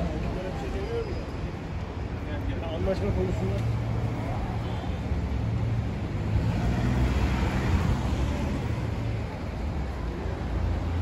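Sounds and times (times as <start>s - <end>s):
tyres on road: 0.0s - 11.0s.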